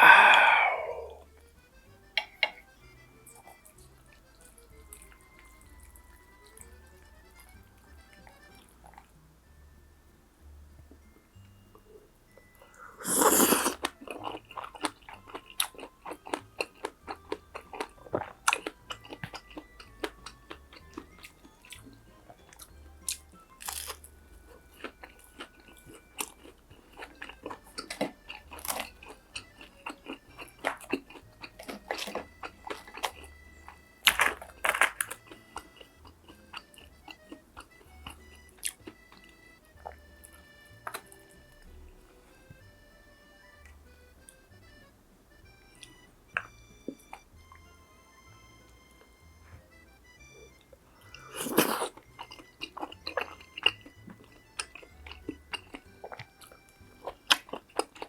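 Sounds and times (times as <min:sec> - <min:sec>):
crunching and chewing fried food: 0:00.0 - 0:09.2, 0:10.9 - 0:44.8, 0:45.5 - 0:58.0
quiet background music: 0:00.0 - 0:58.0.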